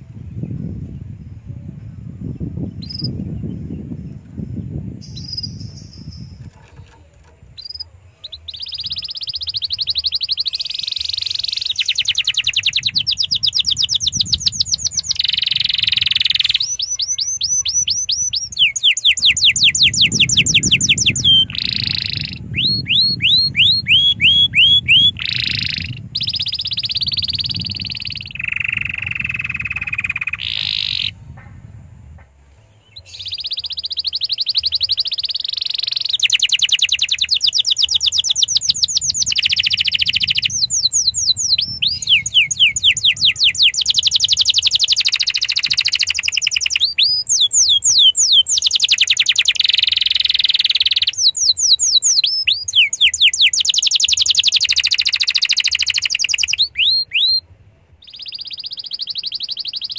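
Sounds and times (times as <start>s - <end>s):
canary singing: 2.6s - 31.2s, 32.8s - 59.9s.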